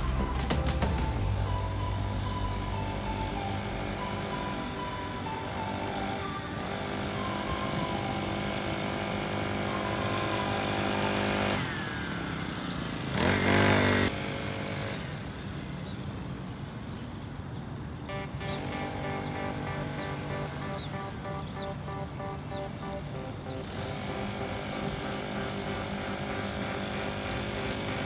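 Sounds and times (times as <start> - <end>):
two-stroke pocket bike engine revving: 1.0 - 16.5, 18.1 - 28.0.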